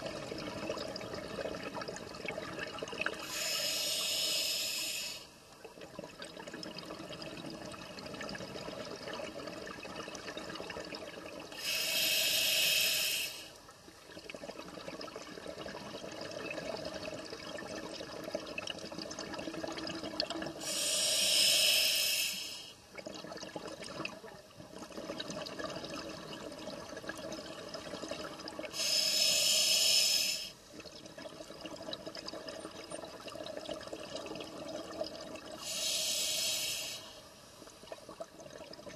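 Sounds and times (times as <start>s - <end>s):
underwater water noise: 0.0s - 38.9s.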